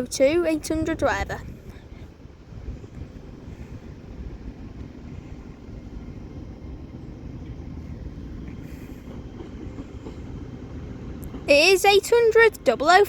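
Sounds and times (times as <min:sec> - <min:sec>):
train pulling into station: 0:00.0 - 0:13.0.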